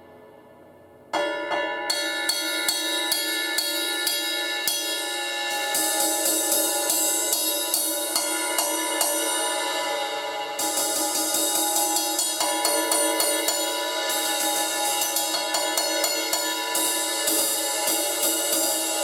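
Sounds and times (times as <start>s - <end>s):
crash cymbal struck with stick: 0.0s - 19.0s.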